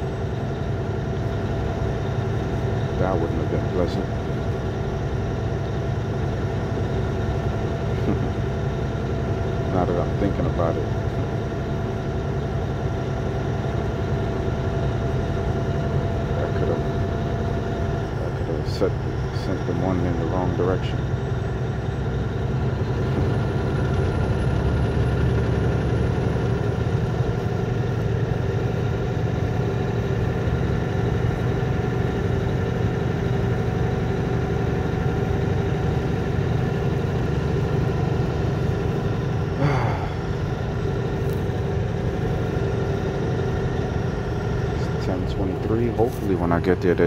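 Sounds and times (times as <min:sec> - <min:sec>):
road noise inside cab: 0:00.0 - 0:47.0
truck engine drone: 0:00.0 - 0:47.0.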